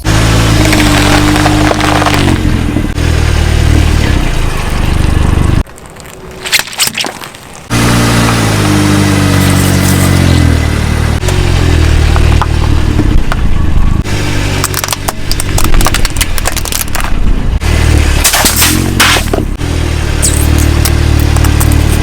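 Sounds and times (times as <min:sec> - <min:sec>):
car engine running: 0:00.0 - 0:05.7, 0:07.6 - 0:22.0
objects crunching under tyres: 0:00.0 - 0:22.0.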